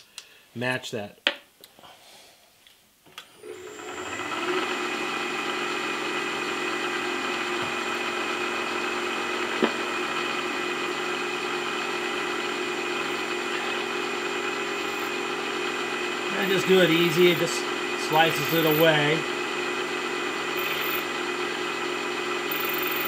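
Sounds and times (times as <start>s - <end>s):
milling machine spindle whine: 3.4s - 23.0s.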